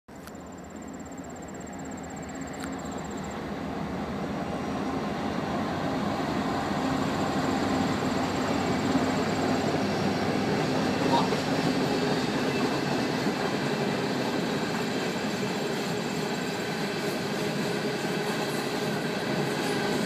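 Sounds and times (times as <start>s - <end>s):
diesel locomotive engine drone: 0.1s - 20.0s
train rolling noise: 0.1s - 20.0s.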